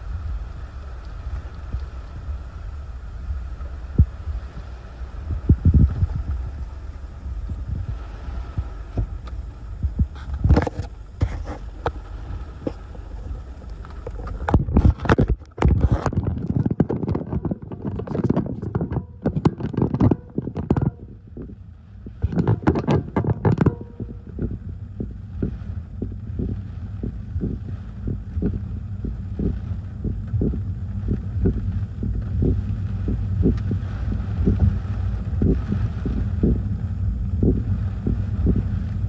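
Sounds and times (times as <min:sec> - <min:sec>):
wind gusts on microphone: 0:00.0 - 0:39.0.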